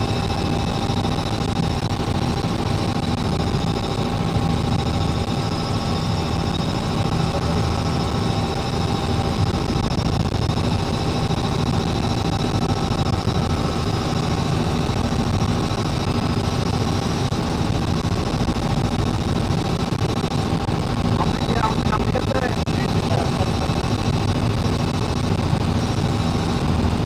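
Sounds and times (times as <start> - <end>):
helicopter rumble: 0.0 - 27.0.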